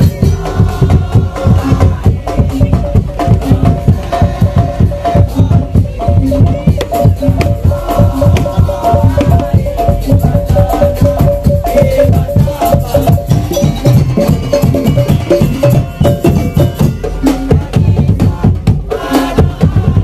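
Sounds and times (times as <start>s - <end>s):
fast drum beats: 0.0s - 20.0s
tuned percussion melody: 0.0s - 20.0s.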